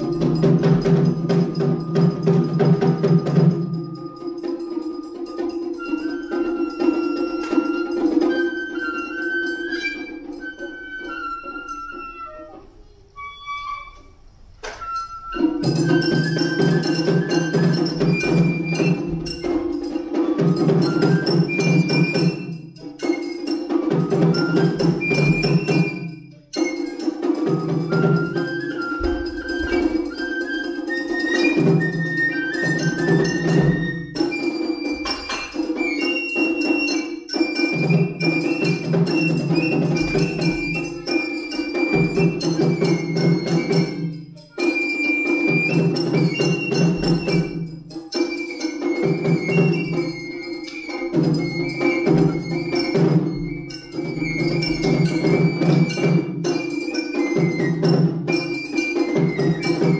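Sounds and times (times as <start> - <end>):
fast drum strokes: 0.0 - 13.3, 14.0 - 59.9
bamboo flute melody: 0.0 - 59.9.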